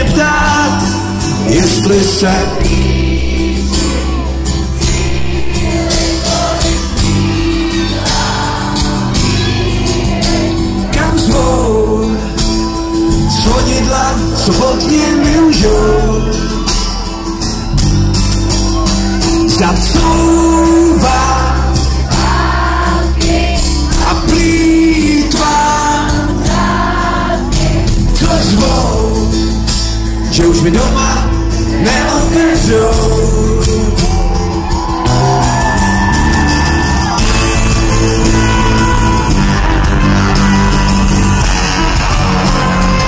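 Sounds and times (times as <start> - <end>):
person singing: 0.0 - 17.4, 19.0 - 29.5, 30.3 - 36.1, 37.0 - 43.0
live pop-rock band: 0.0 - 43.0.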